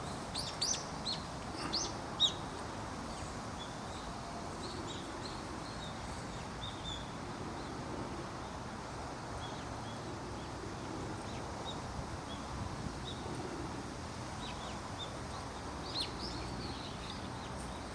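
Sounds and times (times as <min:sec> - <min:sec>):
steady background noise: 0:00.0 - 0:17.9.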